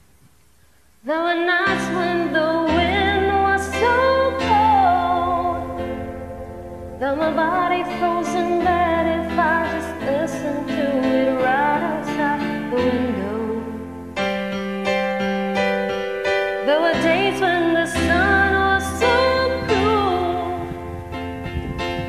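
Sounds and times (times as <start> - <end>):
piano backing track: 0.0 - 22.0
person singing karaoke: 1.0 - 14.4, 16.6 - 21.3.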